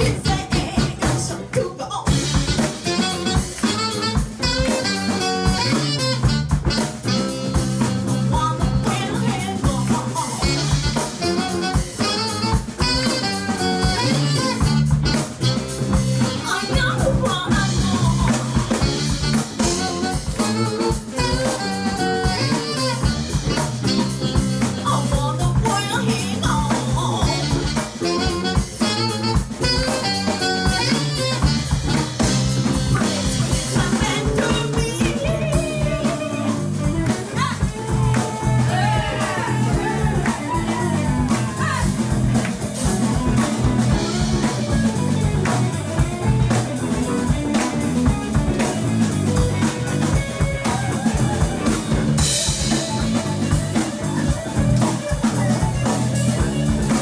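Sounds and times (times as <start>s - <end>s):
drum kit: 0.0s - 57.0s
electric guitar: 0.0s - 57.0s
live band playing: 0.0s - 57.0s.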